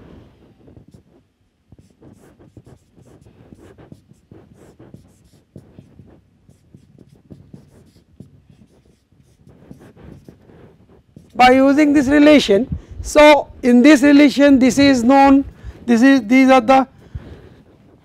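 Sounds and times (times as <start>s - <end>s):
marker writing on a whiteboard: 0.0s - 18.0s.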